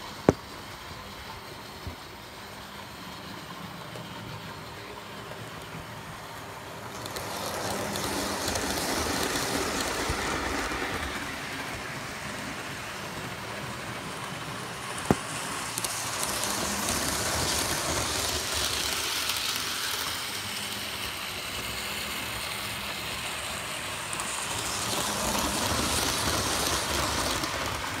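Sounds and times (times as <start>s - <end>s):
model trains whirring and rattling: 0.0s - 28.0s.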